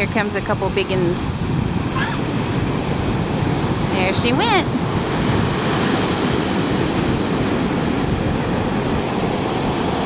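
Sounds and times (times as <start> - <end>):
ocean waves breaking: 0.0 - 10.0.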